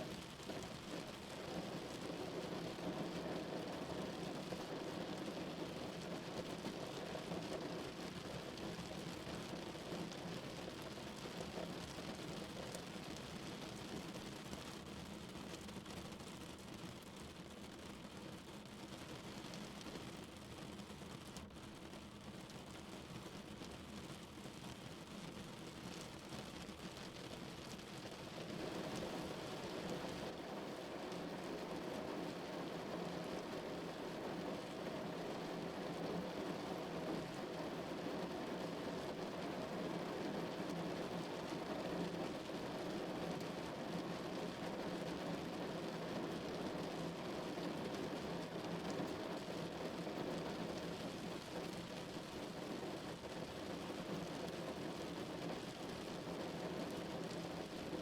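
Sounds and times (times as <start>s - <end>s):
rain on a car roof: 0.0s - 58.0s.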